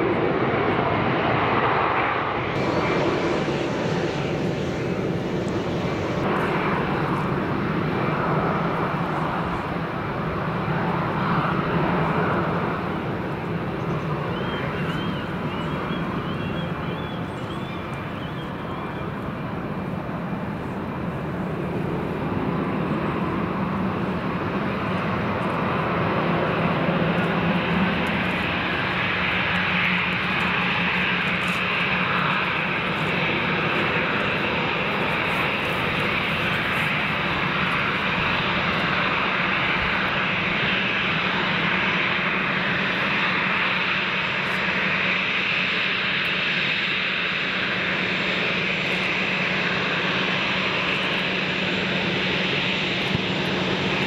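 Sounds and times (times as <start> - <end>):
jet engines at low power: 0.0 - 54.0.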